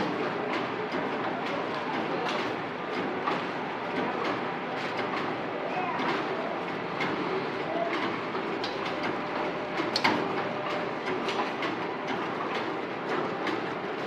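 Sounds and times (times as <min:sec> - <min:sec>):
packing machine clattering: 0:00.0 - 0:14.0.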